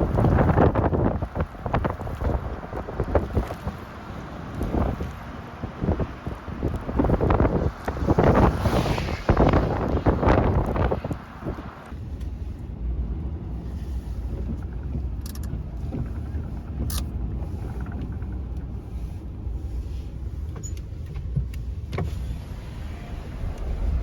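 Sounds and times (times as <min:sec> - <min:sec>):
vehicle driving rumble: 0:00.0 - 0:24.0.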